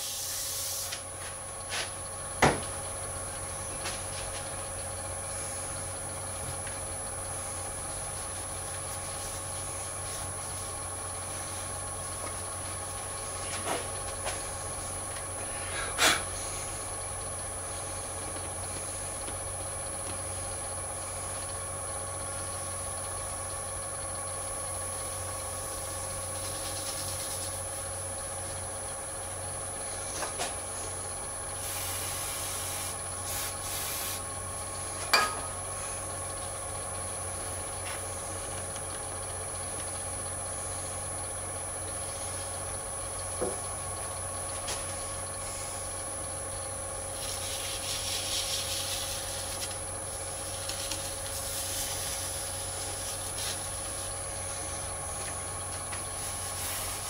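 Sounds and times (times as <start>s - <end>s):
lathe humming and whining: 0.0s - 57.0s.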